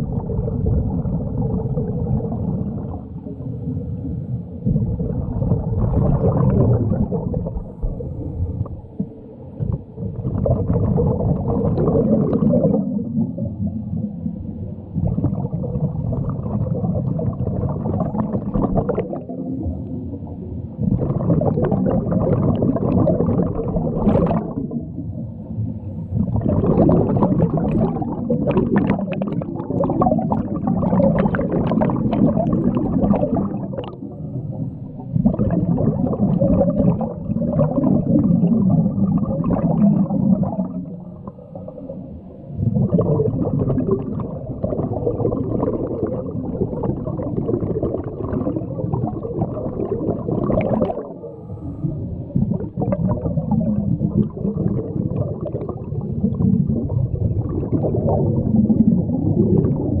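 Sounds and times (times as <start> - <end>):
underwater regulator bubbling: 0.0 - 60.0.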